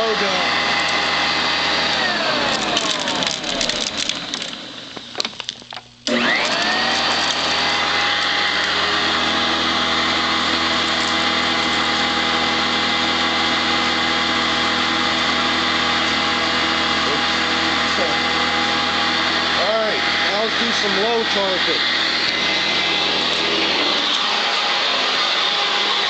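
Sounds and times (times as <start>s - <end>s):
vacuum cleaner motor whine: 0.0s - 5.4s, 6.0s - 26.0s.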